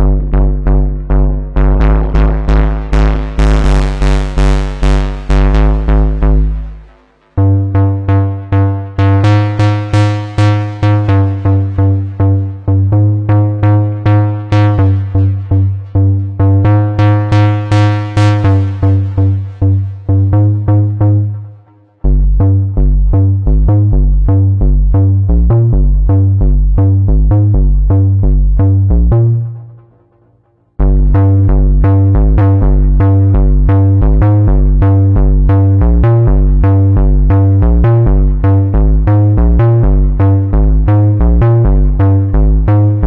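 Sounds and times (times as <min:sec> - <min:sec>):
synthesizer bass notes: 0:00.0 - 0:43.0.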